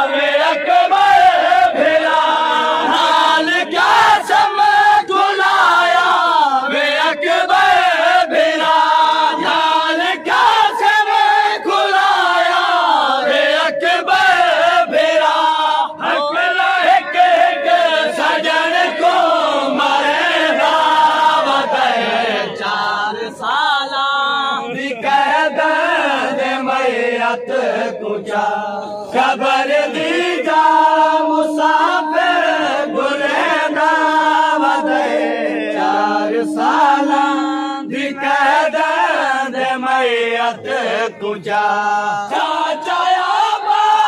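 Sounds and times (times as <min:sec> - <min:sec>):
crowd of men chanting: 0:00.0 - 0:44.0.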